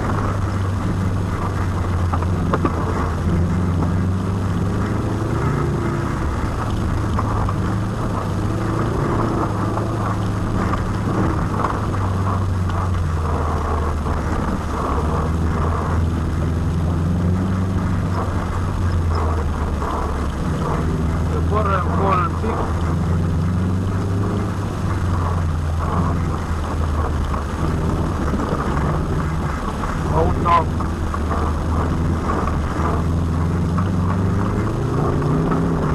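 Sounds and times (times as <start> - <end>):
rally car engine running hard: 0.0 - 35.9.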